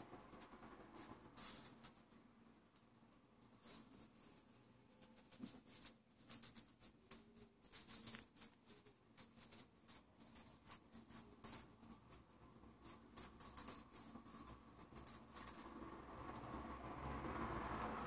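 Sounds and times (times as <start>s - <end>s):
faint rustling and crackling clicks: 0.2s - 17.2s.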